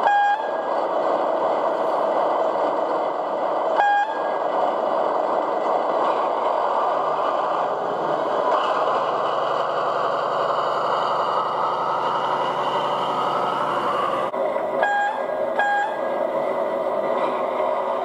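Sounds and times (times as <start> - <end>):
model locomotive diesel engine sound: 0.0 - 18.0.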